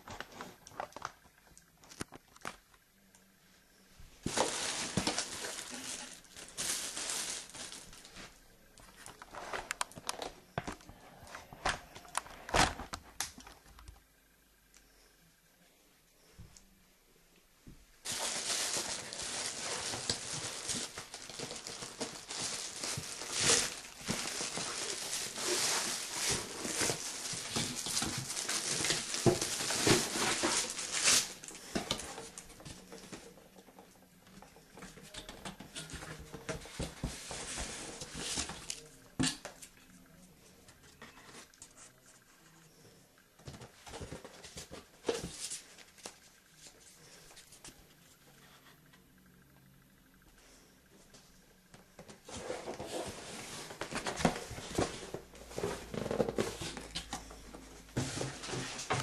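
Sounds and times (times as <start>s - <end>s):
packaging rustling and crinkling: 0.0s - 2.8s, 4.2s - 14.0s, 18.0s - 47.9s, 51.9s - 59.0s.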